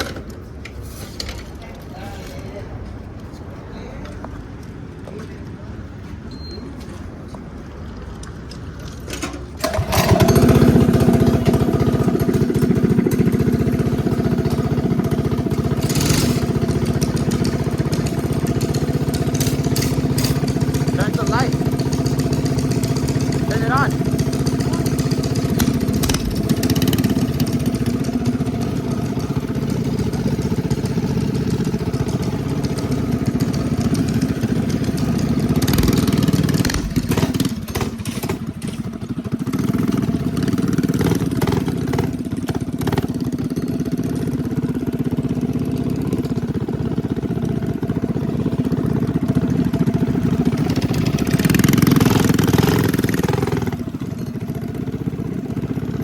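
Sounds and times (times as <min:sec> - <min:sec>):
minibike engine running: 0:07.6 - 0:56.0.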